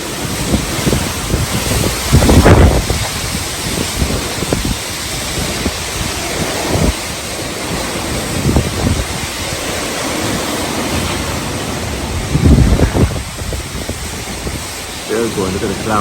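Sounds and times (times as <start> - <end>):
strong wind gusting: 0.0 - 16.0
wind buffeting microphone: 0.0 - 16.0.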